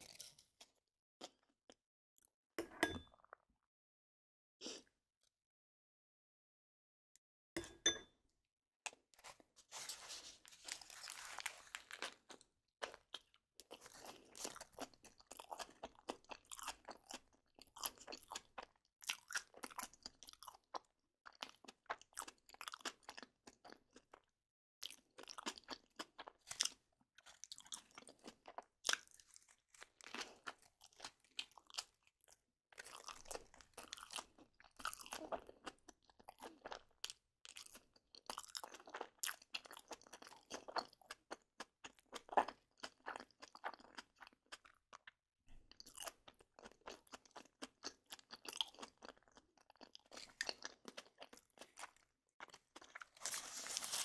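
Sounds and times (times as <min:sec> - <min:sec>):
crunchy food being chewed: 0:00.0 - 0:02.3, 0:08.9 - 0:54.0.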